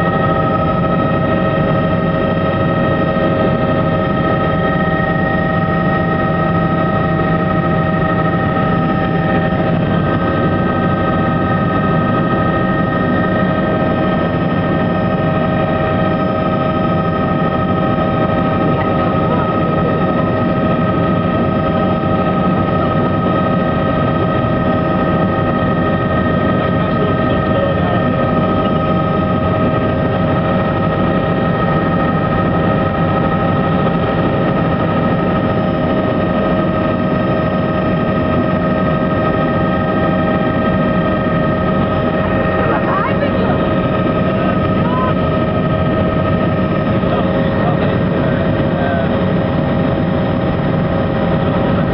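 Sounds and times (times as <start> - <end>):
constant whining tones: 0.0 - 51.9
helicopter engine and rotor noise: 0.0 - 51.9.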